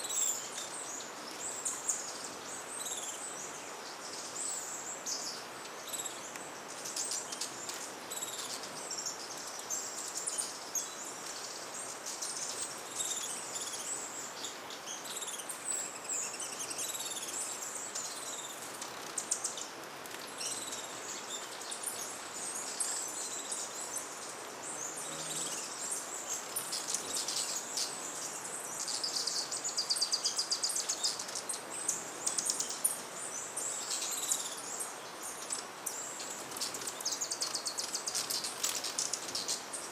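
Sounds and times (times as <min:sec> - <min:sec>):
hummingbirds chipping and twittering: 0:00.0 - 0:39.9
steady background hiss: 0:00.0 - 0:39.9.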